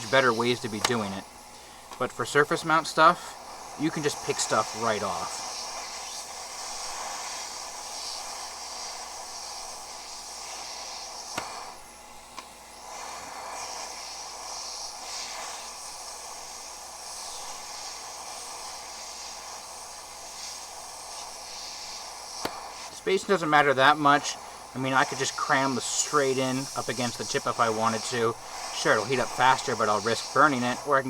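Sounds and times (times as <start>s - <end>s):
hot air hissing from nozzle: 0.0s - 31.0s.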